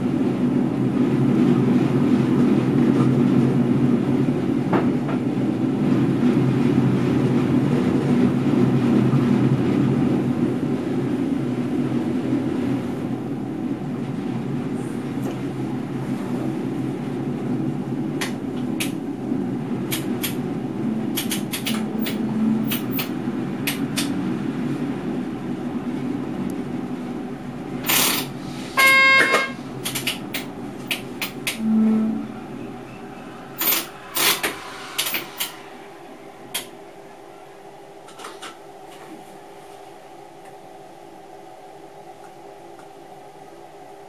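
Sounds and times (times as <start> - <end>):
train running rumble: 0.0 - 44.0.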